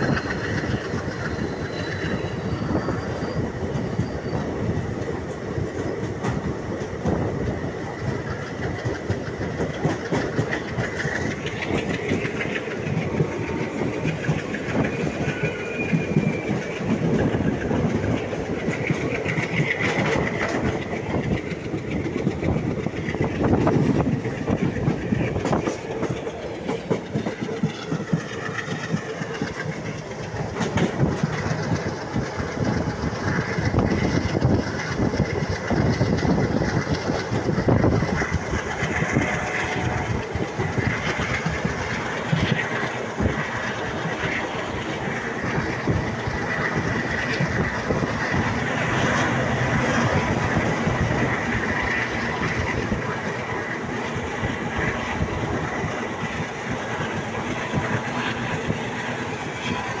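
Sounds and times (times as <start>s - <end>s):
train rumbling: 0.0s - 60.0s.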